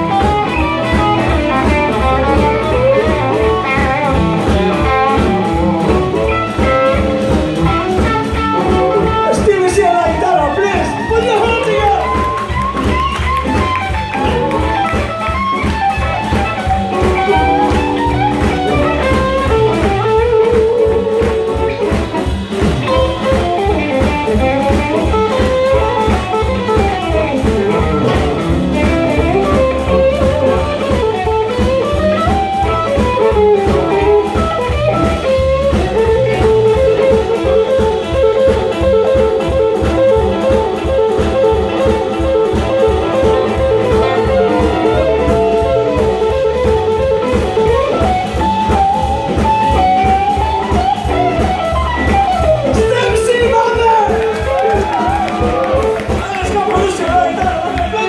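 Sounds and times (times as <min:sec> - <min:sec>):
electric guitar sliding notes: 0:00.0 - 0:58.0
steady drum beat: 0:00.0 - 0:58.0.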